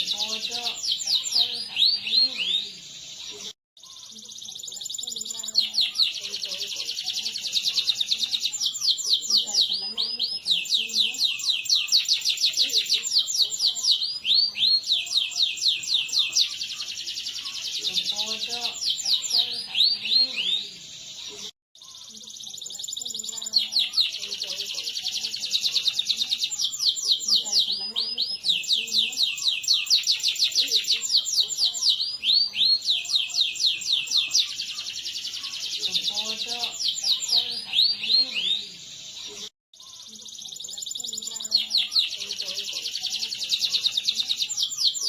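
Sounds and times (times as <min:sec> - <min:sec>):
canary singing: 0:00.0 - 0:45.0.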